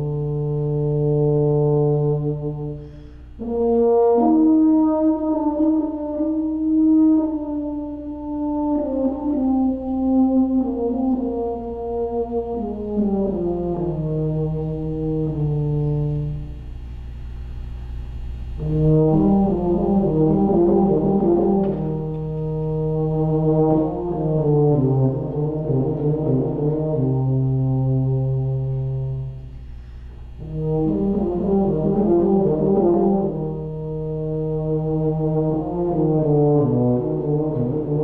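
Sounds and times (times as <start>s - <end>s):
solo tuba playing: 0.0s - 38.0s.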